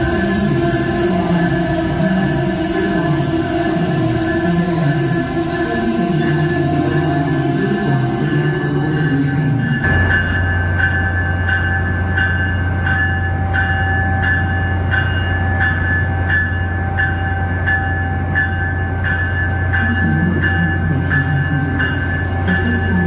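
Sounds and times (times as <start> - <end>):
regular train clicks: 0.0 - 23.0
train hum and whine: 0.0 - 23.0.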